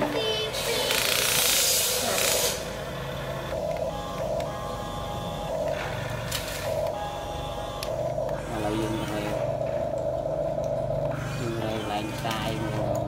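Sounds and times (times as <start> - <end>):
toy gear motors whining: 0.0 - 13.0.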